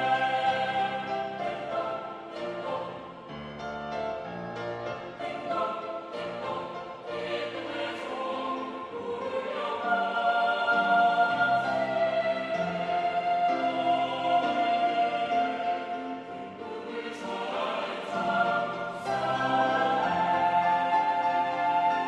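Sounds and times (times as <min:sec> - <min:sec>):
choir singing in parts: 0:00.0 - 0:22.0.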